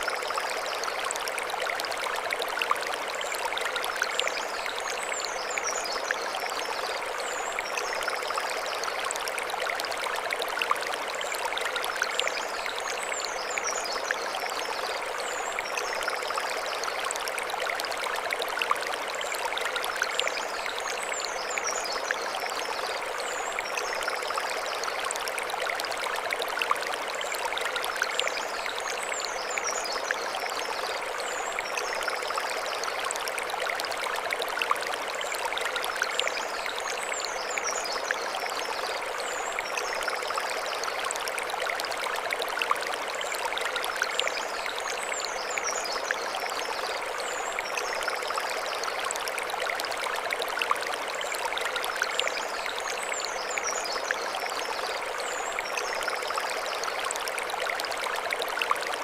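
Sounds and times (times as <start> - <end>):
stream flowing over stones: 0.0 - 59.0.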